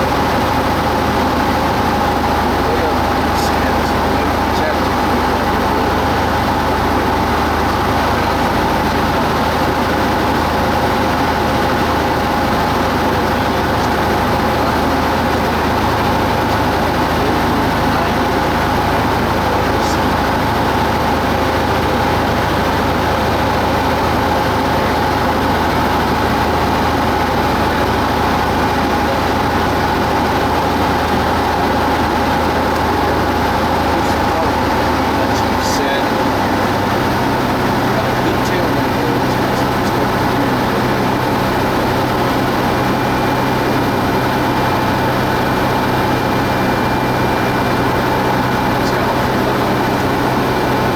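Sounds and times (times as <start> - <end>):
propeller plane engine droning: 0.0 - 50.9.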